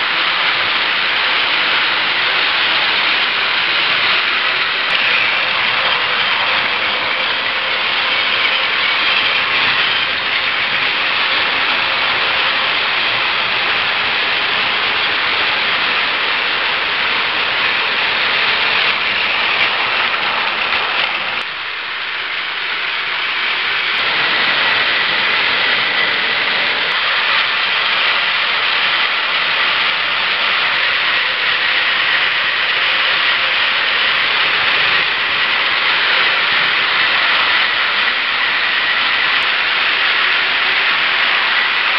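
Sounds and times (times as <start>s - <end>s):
thin high whine: 0.0s - 41.9s
toy trains whirring on track: 0.0s - 41.9s.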